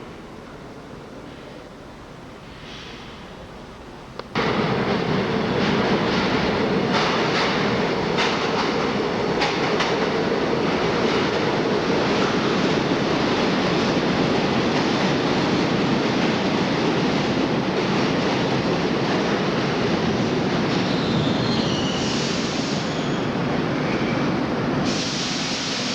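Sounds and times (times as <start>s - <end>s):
train running on rails: 0.0s - 25.9s.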